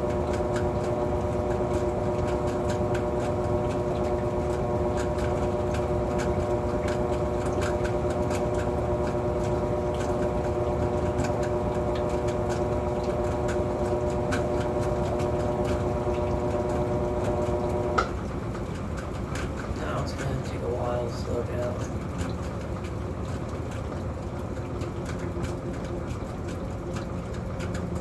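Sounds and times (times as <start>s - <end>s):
washing machine spinning: 0.0s - 28.0s.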